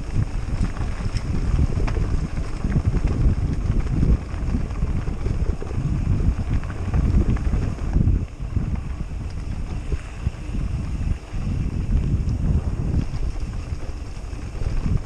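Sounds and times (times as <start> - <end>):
bike rattling over gravel: 0.0 - 15.0
wind buffeting microphone: 0.0 - 15.0.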